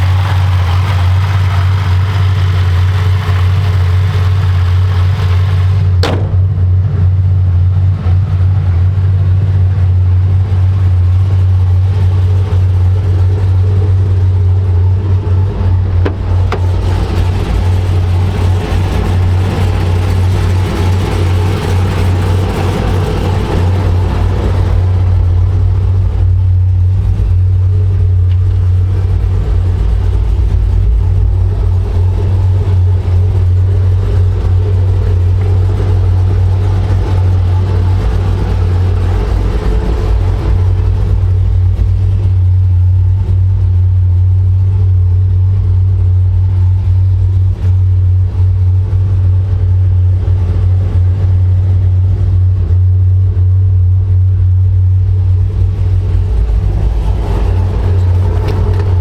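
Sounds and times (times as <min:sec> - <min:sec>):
car engine and exhaust droning: 0:00.0 - 0:59.0.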